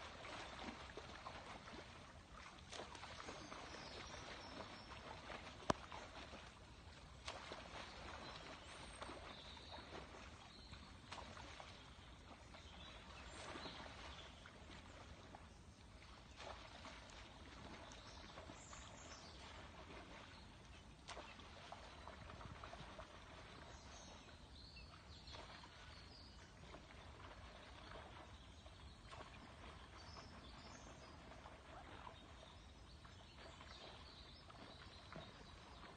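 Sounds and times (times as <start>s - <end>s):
faint water noise: 0.0s - 35.9s
small splashes: 0.0s - 35.9s.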